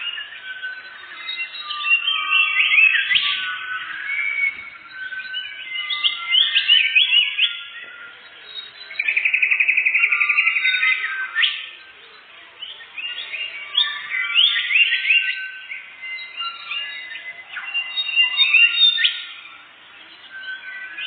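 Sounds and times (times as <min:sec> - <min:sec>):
songbird whistles and trills: 0:00.0 - 0:21.0.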